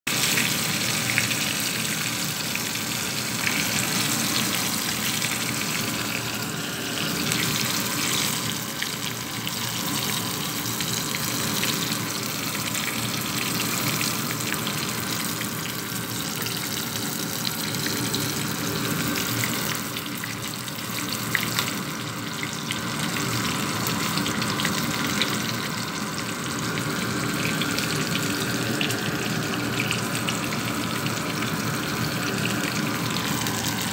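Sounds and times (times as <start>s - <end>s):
fish deep-frying in hot oil: 0.1s - 33.9s.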